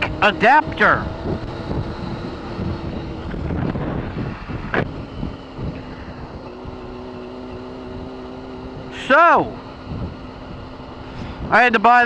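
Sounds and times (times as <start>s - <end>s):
wind noise on microphone: 0.0s - 9.0s, 9.8s - 11.8s
motorcycle engine running: 0.0s - 12.0s.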